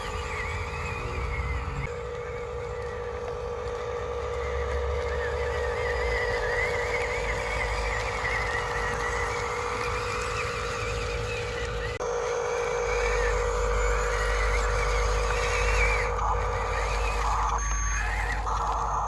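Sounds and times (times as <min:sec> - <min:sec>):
electric motor and gear whine: 0:00.0 - 0:19.0.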